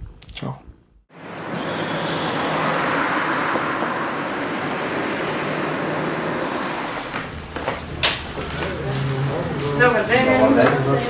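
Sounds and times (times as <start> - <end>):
street traffic: 1.1 - 11.0.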